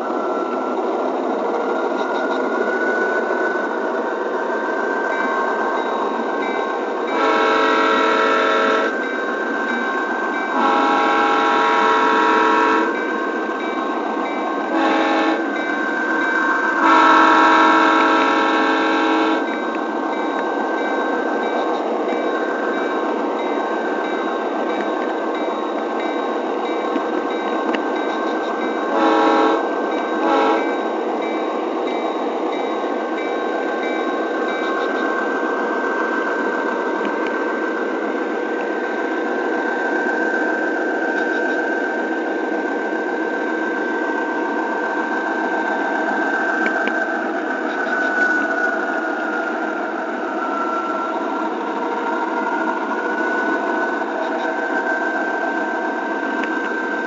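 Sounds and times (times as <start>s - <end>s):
steady whine: 0.0s - 57.0s.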